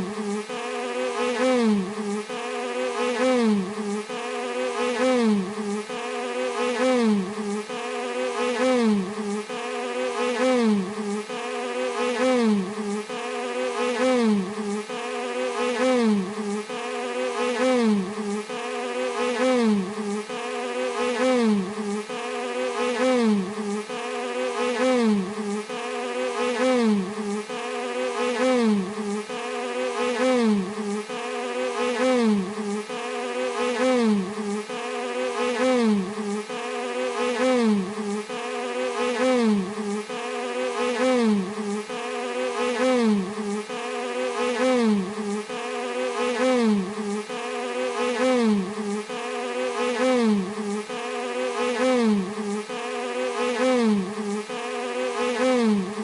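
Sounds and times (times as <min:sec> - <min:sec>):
bee buzzing: 0:00.0 - 0:56.0.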